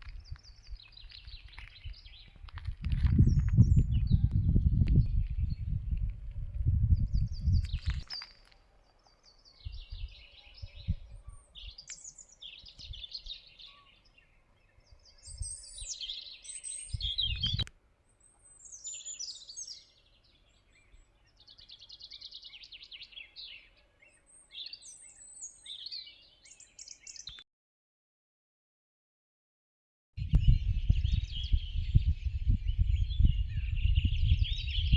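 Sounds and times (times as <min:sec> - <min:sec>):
songbirds chirping and trilling: 0:00.0 - 0:27.4, 0:30.2 - 0:34.9.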